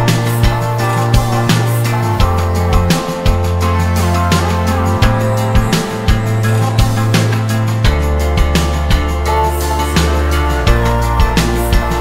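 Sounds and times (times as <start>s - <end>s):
music with steady beat: 0.0s - 12.0s
sustained bass notes: 0.0s - 12.0s.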